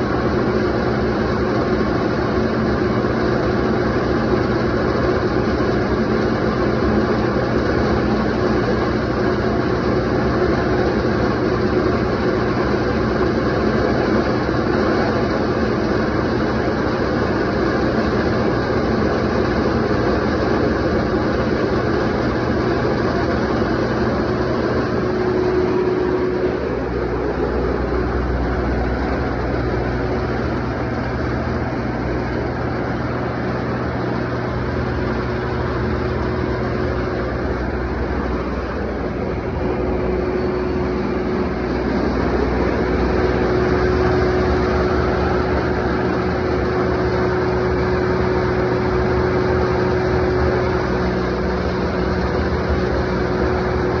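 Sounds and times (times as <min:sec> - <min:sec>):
diesel generator running: 0:00.0 - 0:54.0
steady whine: 0:00.0 - 0:54.0.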